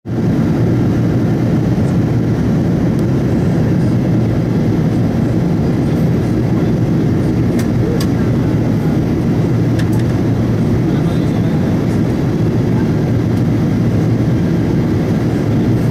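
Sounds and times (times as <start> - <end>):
airplane cabin engine roar: 0.1 - 15.9.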